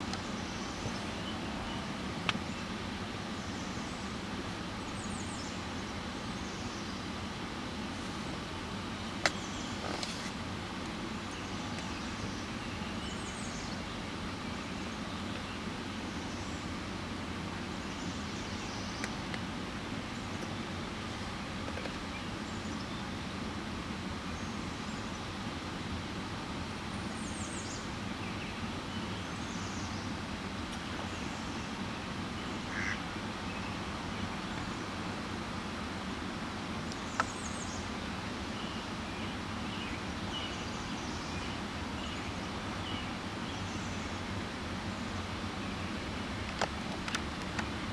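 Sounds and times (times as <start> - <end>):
background hiss: 0.0 - 47.9.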